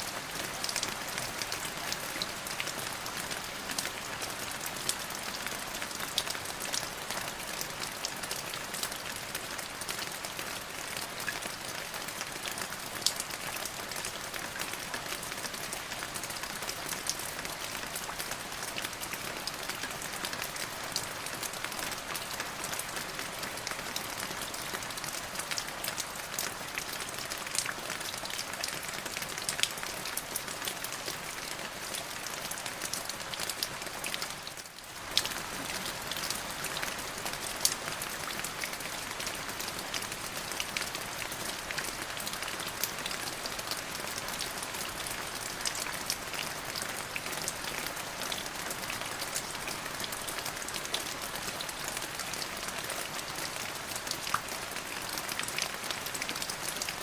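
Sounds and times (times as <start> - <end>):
steady rain: 0.0 - 57.0
raindrops ticking on a surface: 0.2 - 57.0.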